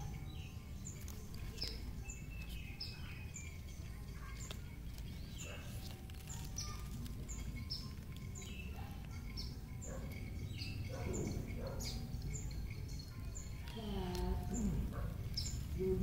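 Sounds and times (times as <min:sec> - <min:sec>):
low background noise: 0:00.0 - 0:16.0
small birds chirping: 0:00.0 - 0:16.0.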